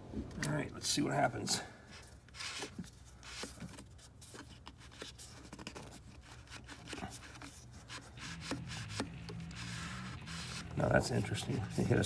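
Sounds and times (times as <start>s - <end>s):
cap clicking and scraping: 2.0s - 12.0s.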